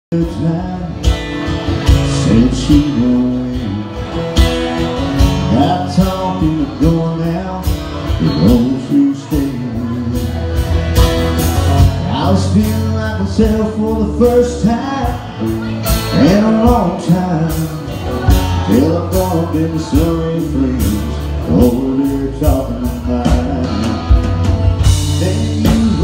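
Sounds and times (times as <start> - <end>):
drum kit: 0.1 - 26.0
electric guitar: 0.1 - 26.0
strummed acoustic guitar: 0.1 - 26.0.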